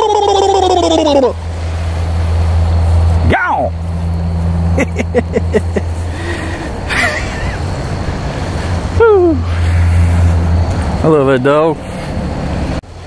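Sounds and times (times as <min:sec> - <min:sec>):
golf cart motor hum: 0:00.0 - 0:13.0.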